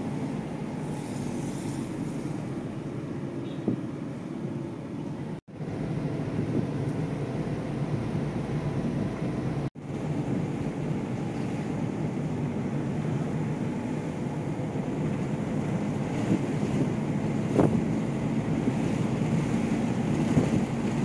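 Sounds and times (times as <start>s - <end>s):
vehicle engine and road noise: 0.0s - 21.0s
wind: 0.0s - 21.0s.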